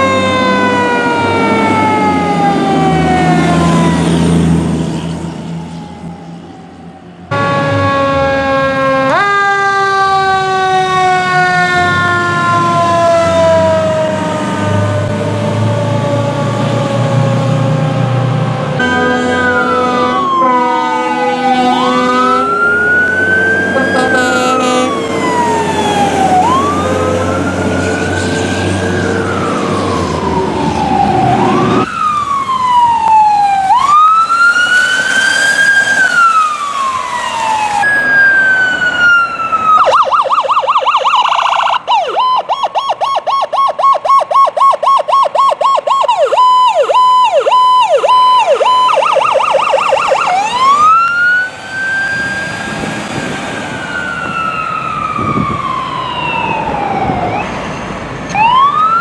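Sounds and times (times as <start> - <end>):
rapid yelping siren: 0.0 - 59.0
wailing siren: 0.0 - 59.0.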